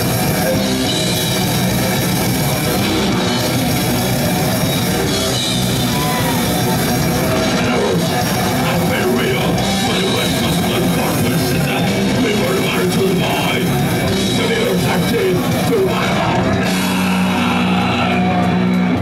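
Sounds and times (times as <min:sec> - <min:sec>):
heavy metal band playing live: 0:00.0 - 0:19.0.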